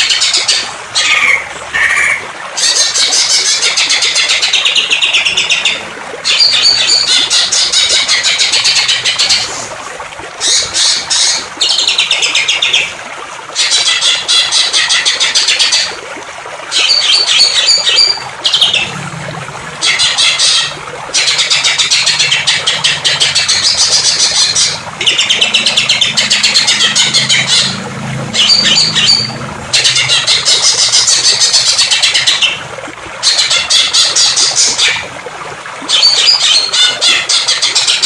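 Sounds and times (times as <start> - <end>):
running water: 0.0 - 38.0.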